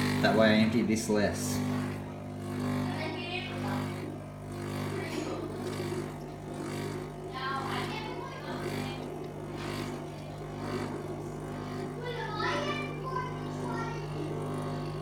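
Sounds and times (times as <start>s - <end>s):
espresso machine humming: 0.0s - 15.0s.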